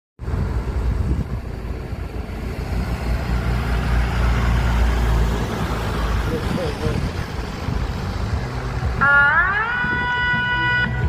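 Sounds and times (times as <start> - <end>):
large vehicle engine rumbling: 0.2 - 11.0.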